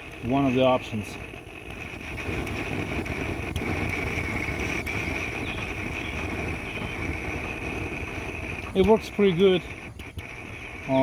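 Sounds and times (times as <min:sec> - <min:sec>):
blow torch flame rushing: 0:00.0 - 0:11.0
flame hiss: 0:00.0 - 0:11.0.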